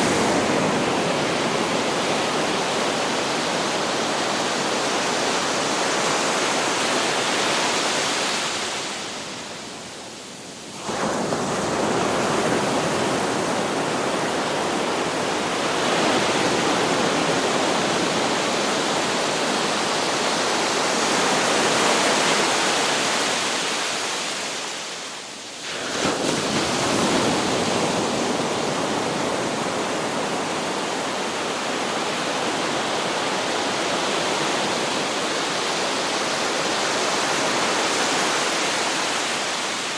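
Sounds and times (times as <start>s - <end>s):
sea surf washing on beach: 0.0s - 39.9s.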